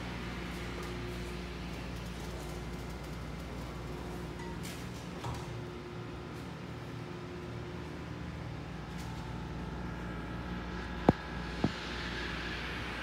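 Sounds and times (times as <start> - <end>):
elevator pump motor humming: 0.0 - 13.0.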